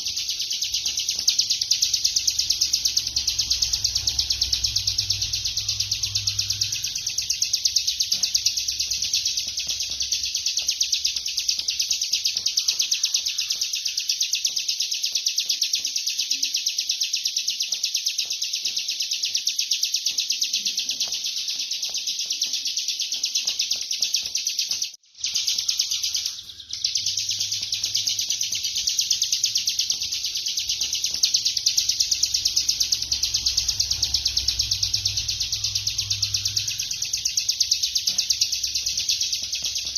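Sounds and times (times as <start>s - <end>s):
bird trilling song: 0.0s - 39.9s.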